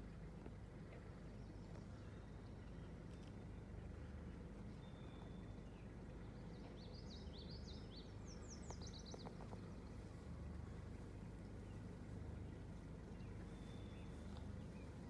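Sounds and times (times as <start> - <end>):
songbird singing: 0.0 - 15.0
steady low rumble: 0.0 - 15.0.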